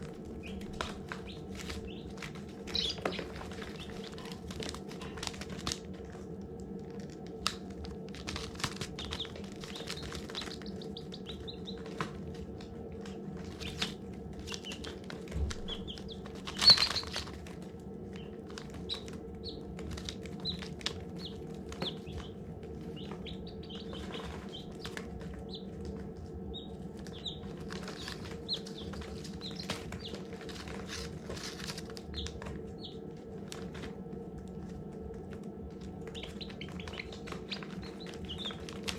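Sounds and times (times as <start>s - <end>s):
baby chicks peeping: 0.0s - 38.9s
steady low hum: 0.0s - 38.9s.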